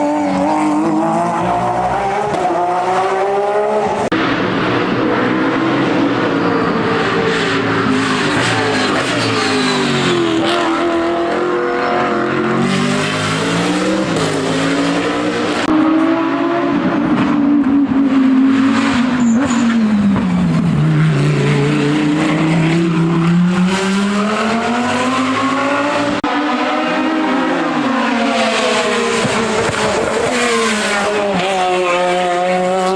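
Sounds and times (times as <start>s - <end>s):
race car engine at high revs: 0.0s - 32.9s.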